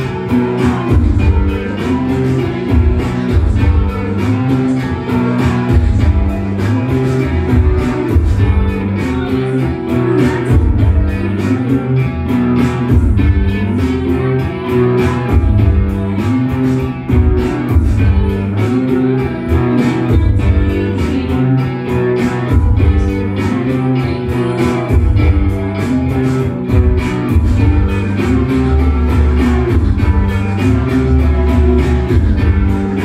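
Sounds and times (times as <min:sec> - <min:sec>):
rock band playing live: 0:00.0 - 0:33.0.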